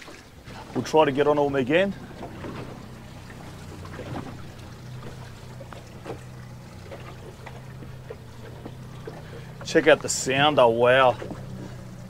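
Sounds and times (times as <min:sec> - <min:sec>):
faint water splashes: 0:00.0 - 0:12.0
outboard motor humming: 0:00.0 - 0:12.0.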